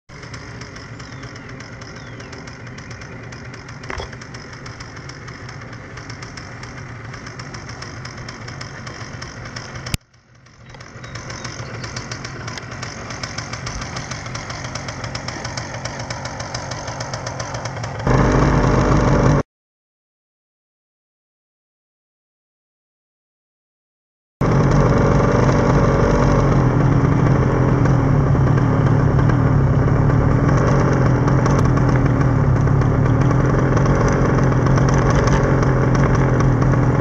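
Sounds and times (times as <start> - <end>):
paramotor engine running: 0.1 - 19.4, 24.4 - 37.0.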